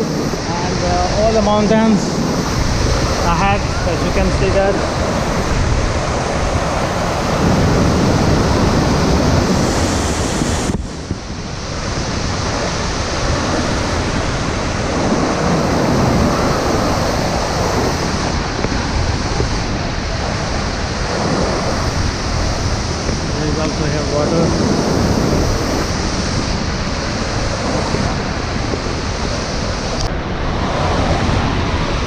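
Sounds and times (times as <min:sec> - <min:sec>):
waterfall rushing: 0:00.0 - 0:32.0
wind buffeting microphone: 0:00.0 - 0:32.0.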